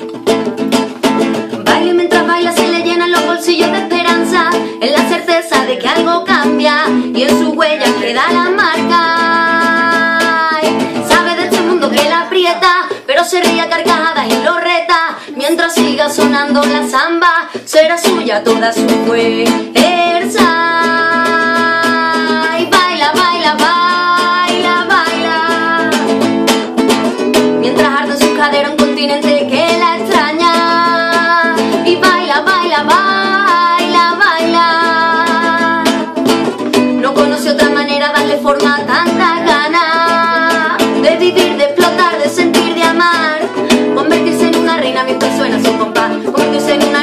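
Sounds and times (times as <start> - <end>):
strummed classical guitar: 0.0 - 47.0
woman singing: 1.3 - 26.7, 27.4 - 47.0.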